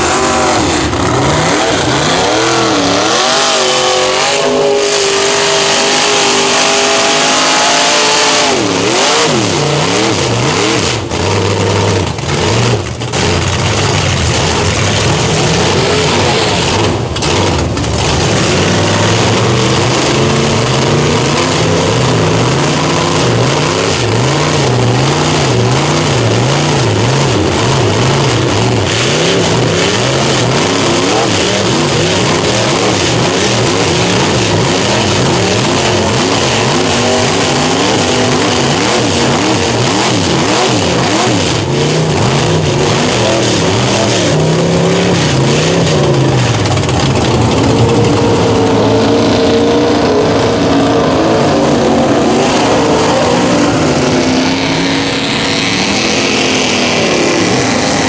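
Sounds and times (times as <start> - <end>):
tires spinning through mud: 0.0 - 58.0
truck engines revving: 0.0 - 58.0.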